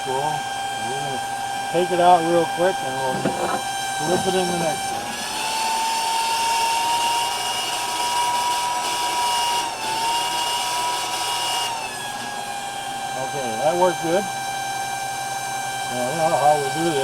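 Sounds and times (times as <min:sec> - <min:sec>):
electric pump motor whining: 0:00.0 - 0:17.0.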